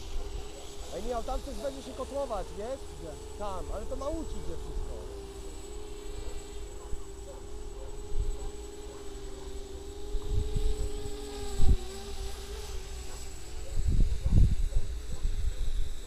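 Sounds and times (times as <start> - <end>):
drone motors buzzing: 0.0 - 16.0.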